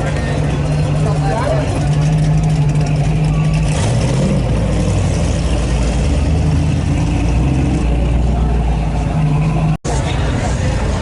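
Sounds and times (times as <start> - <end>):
engine revving: 0.5 - 9.8.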